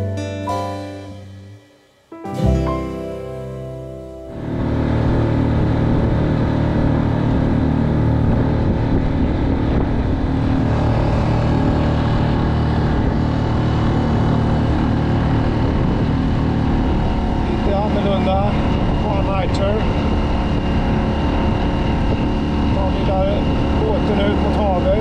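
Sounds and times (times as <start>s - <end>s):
outboard motor running: 4.3s - 25.0s
wind and water rushing: 4.3s - 25.0s.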